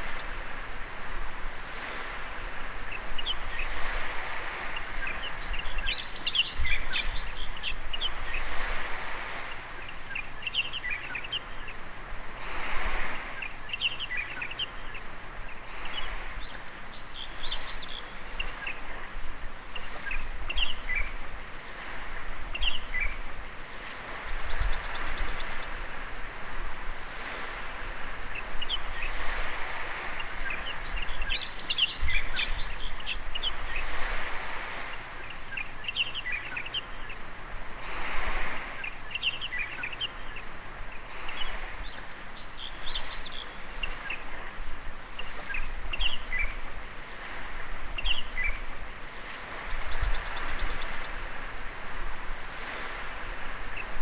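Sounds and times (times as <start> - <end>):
birds chirping: 0.0 - 1.1, 1.8 - 12.0, 12.9 - 26.2, 27.1 - 37.6, 38.4 - 54.0
small waves washing on beach: 0.0 - 54.0.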